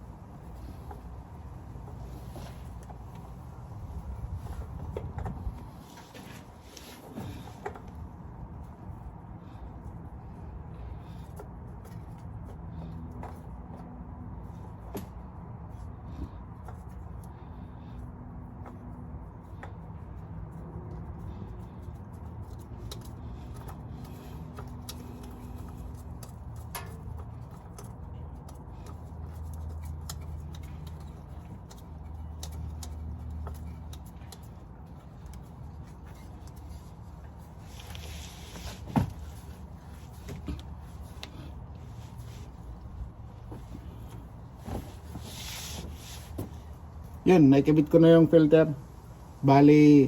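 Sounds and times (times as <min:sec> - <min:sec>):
clicks and scrapes on car parts: 0:00.0 - 0:47.2.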